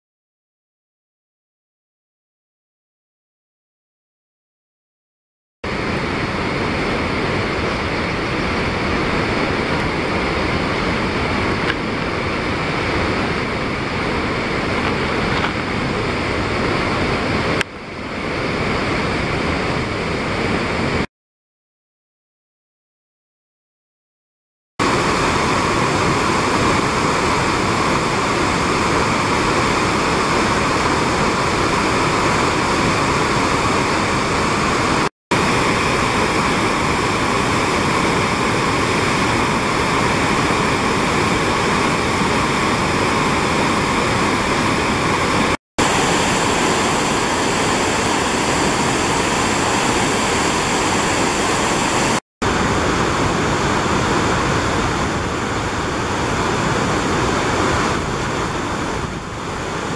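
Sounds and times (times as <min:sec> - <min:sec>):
waterfall rushing: 0:05.7 - 0:21.1, 0:24.8 - 0:59.9.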